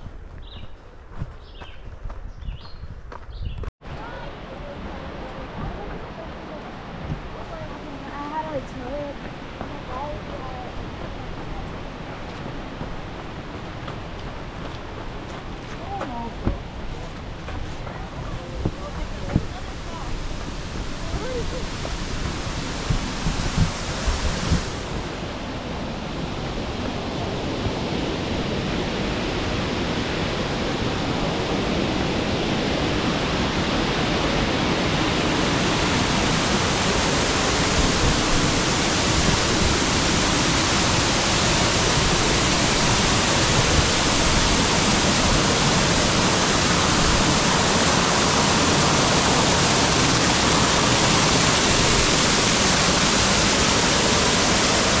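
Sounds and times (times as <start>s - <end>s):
waterfall rushing onto rock: 3.9s - 25.6s, 29.8s - 55.0s.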